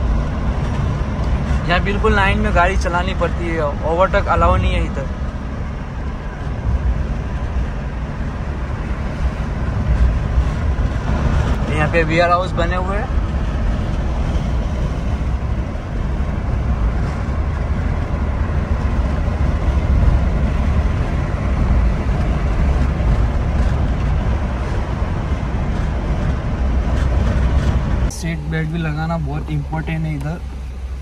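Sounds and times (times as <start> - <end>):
car cabin road noise: 0.0 - 31.0.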